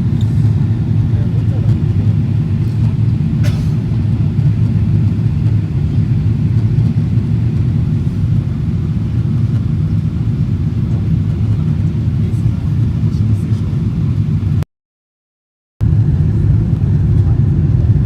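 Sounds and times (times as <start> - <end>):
airliner cabin rumble: 0.0 - 14.6, 15.8 - 18.0.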